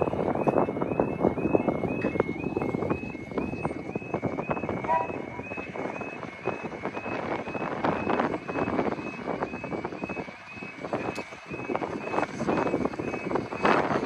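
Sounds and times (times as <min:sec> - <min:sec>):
two-tone electronic warning sound: 0:00.0 - 0:13.8
wind buffeting microphone: 0:00.0 - 0:14.0.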